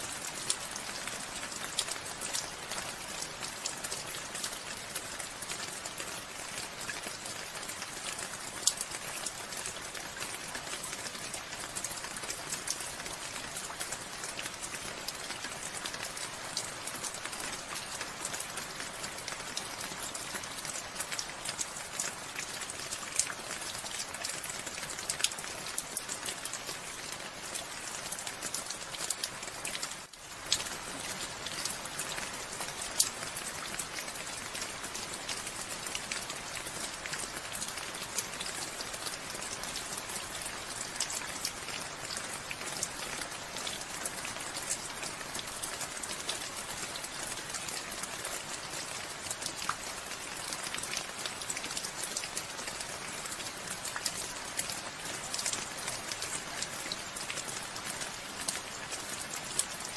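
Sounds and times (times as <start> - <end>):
raindrops striking close by: 0.0 - 59.9.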